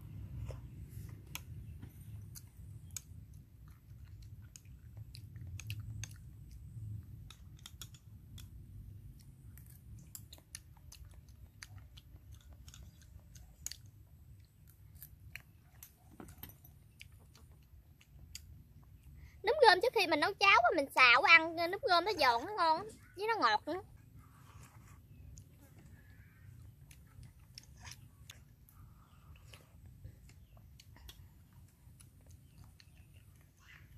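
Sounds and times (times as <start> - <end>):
person chewing food: 0.0 - 19.2, 24.0 - 33.9
low steady rumble: 0.0 - 33.9.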